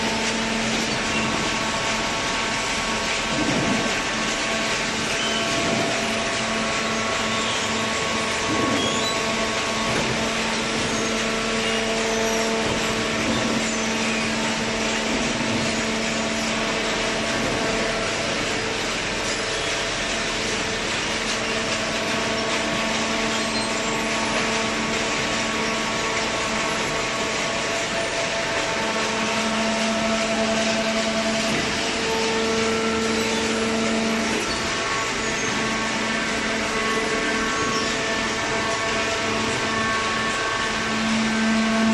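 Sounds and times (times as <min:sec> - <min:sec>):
hydraulic power unit humming: 0:00.0 - 0:41.9.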